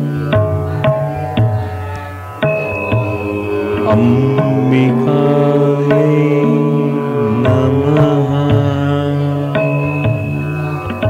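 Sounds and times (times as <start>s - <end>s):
gliding melody: 0.0s - 11.0s
low drone: 0.0s - 11.0s
plucked notes at a regular pulse: 0.0s - 11.0s.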